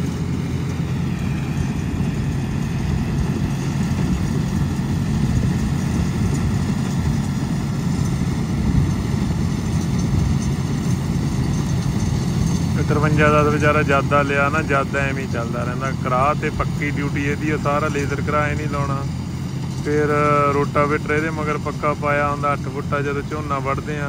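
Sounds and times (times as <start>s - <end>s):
tractor engine and machine whirring: 0.0s - 24.0s.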